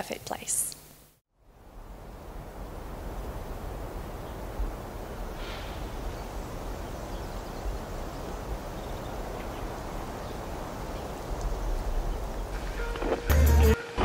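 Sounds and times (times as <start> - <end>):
low wind-like rumble: 1.4 - 13.2.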